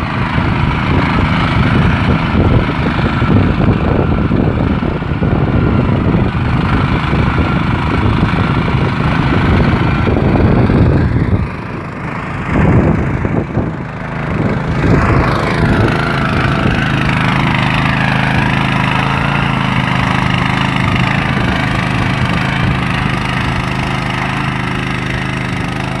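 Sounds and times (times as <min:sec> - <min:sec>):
small tiller engine running: 0:00.0 - 0:26.0.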